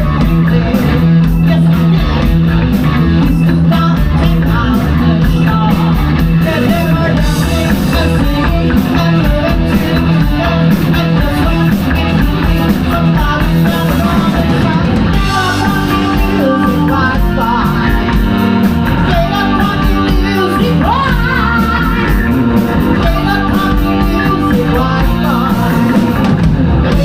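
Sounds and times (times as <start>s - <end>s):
person singing: 0.0s - 27.0s
rock band playing: 0.0s - 27.0s.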